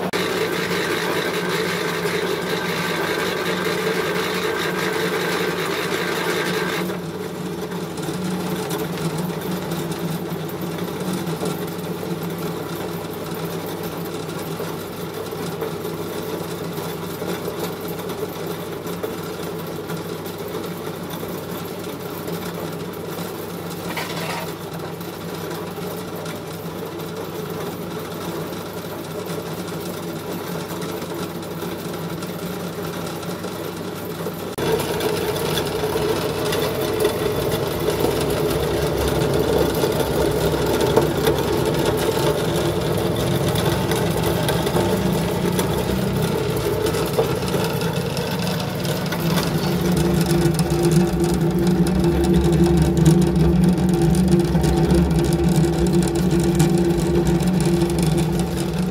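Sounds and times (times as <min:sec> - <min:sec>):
pellet mill machine drone: 0:00.0 - 0:58.9.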